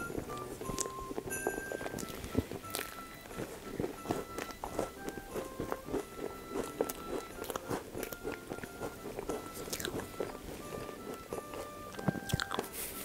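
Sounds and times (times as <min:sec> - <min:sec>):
carol music with bell-like notes: 0:00.0 - 0:13.0
close chewing mouth sounds: 0:00.0 - 0:13.0.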